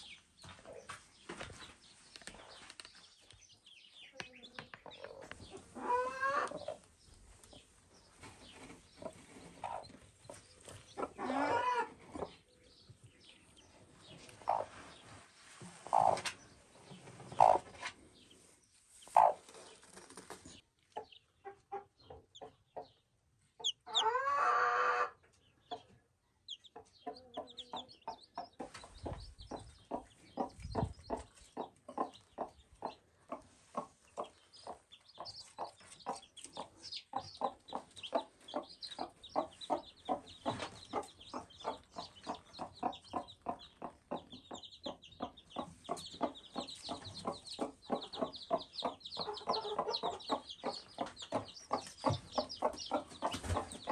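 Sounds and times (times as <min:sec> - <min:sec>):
chicks peeping: 0:00.0 - 0:53.9
hen clucking: 0:03.6 - 0:15.1, 0:15.7 - 0:18.4, 0:19.0 - 0:53.9.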